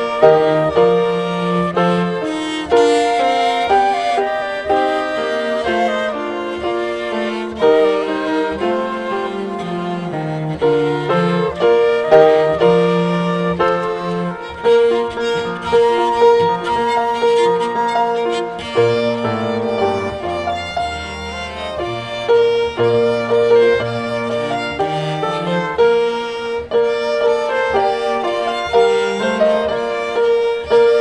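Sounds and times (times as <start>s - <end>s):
chamber ensemble playing christmas music: 0.0s - 31.0s.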